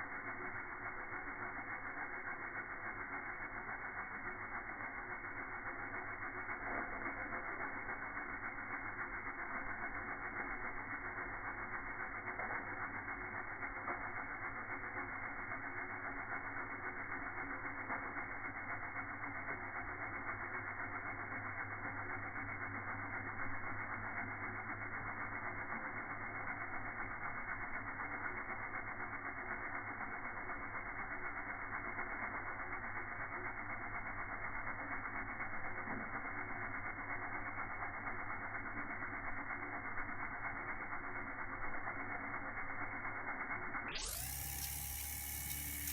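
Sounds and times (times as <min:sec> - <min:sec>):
steam hissing: 0:00.0 - 0:45.9.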